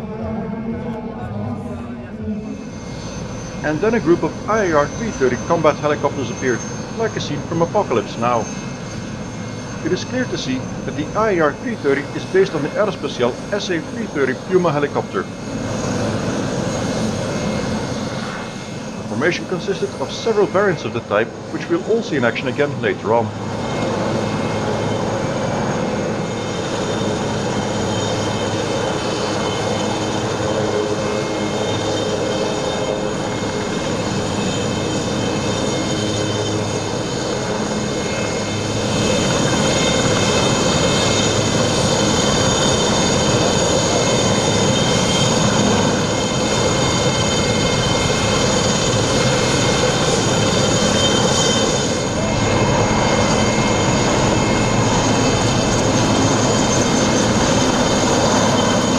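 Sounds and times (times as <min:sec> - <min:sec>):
helicopters flying by: 0:00.0 - 0:58.9.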